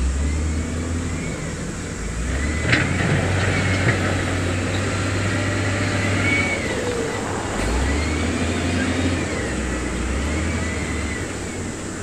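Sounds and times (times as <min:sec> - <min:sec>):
diesel machinery engine drone: 0:00.0 - 0:12.0.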